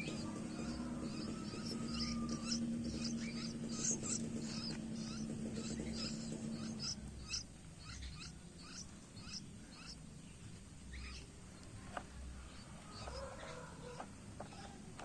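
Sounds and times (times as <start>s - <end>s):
bird chick chirping: 0.0s - 15.0s.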